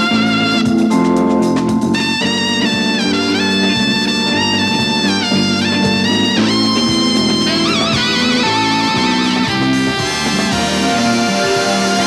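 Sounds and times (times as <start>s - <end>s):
jazz big band playing: 0.0s - 12.0s.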